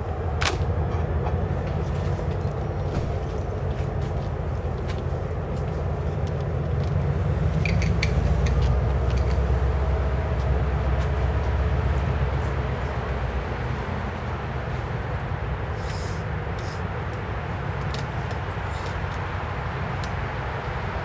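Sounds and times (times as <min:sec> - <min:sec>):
distant train rumbling: 0:00.0 - 0:21.0.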